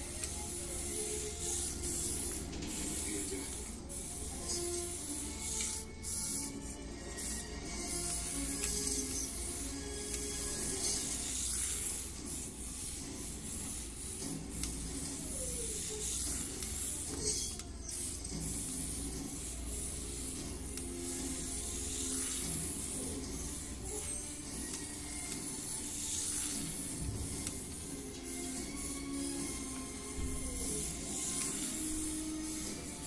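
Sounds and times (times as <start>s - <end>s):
toy car motor whirring: 0.0s - 33.0s.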